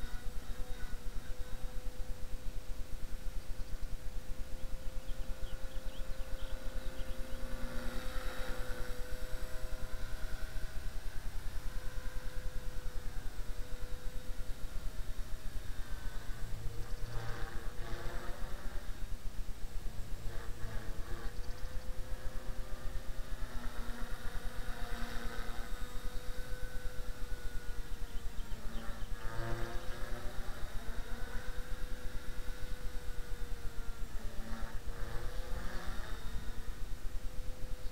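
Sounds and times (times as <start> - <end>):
rc helicopter motor whine: 0.0 - 37.9.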